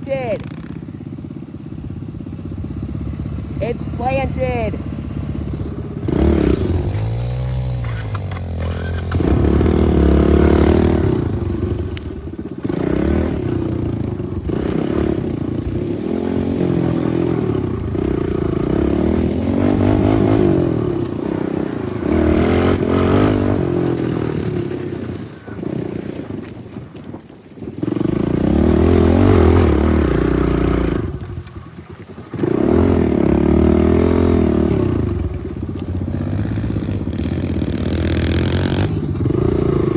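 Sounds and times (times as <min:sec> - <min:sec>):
pit bike engine revving: 0:00.0 - 0:26.6, 0:27.6 - 0:39.9.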